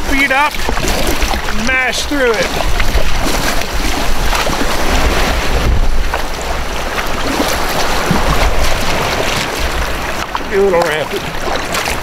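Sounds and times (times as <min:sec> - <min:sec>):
paddle splashes: 0:00.0 - 0:12.0
rushing river water: 0:00.0 - 0:12.0
wind buffeting microphone: 0:00.0 - 0:12.0.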